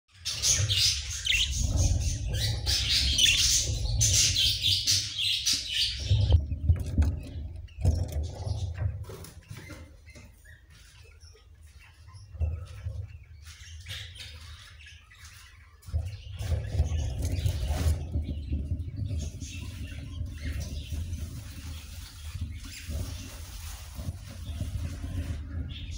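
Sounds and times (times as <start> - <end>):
budgerigars chirping and chattering: 0.1 - 25.9.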